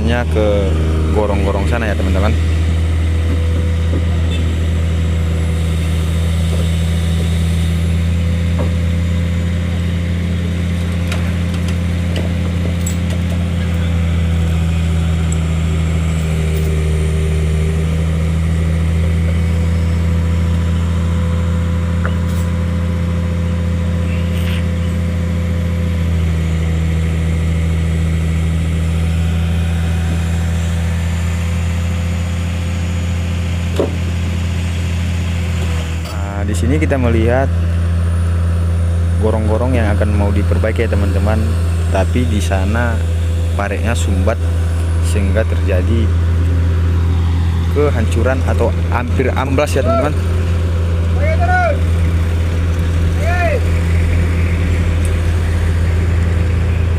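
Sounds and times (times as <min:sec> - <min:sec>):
engine idling: 0:00.0 - 0:56.9.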